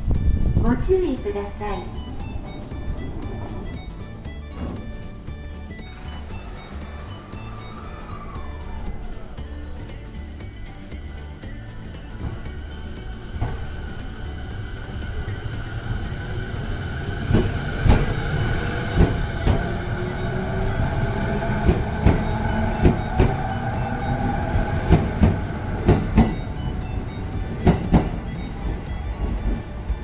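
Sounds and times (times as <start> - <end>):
faint whine: 0.0 - 30.0
train rumbling on rails: 0.0 - 30.0
wheels clacking over rail joints: 1.9 - 30.0.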